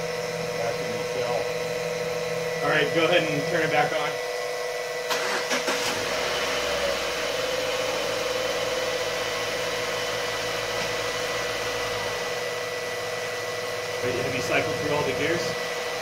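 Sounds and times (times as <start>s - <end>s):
car engine idling: 0.0s - 4.3s, 5.1s - 16.0s
pump motor hum with whine: 0.0s - 16.0s.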